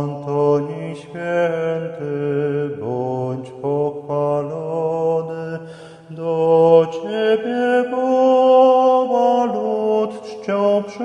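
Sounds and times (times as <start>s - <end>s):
person singing a slow hymn: 0.0s - 11.0s.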